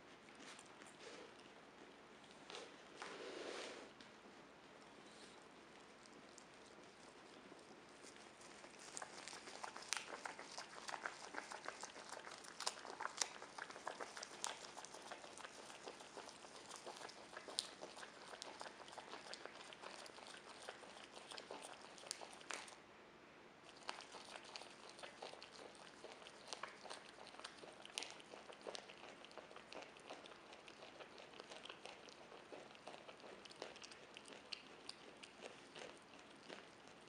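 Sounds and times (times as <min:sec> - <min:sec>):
animal chewing leaves: 0:05.1 - 0:22.8, 0:23.7 - 0:37.0.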